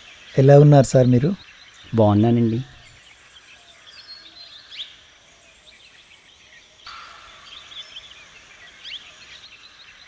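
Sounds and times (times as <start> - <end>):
bird chirps: 0.0 - 10.0
low background hiss: 0.0 - 10.0.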